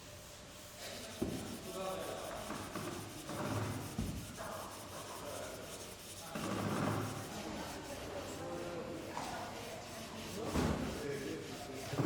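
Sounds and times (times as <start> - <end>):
sandpaper rubbing wood: 0.2 - 12.0.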